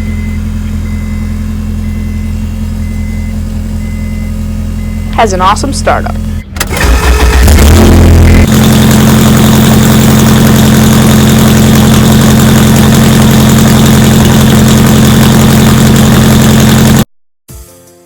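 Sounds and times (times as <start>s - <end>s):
car engine idling loud: 0.0s - 17.1s.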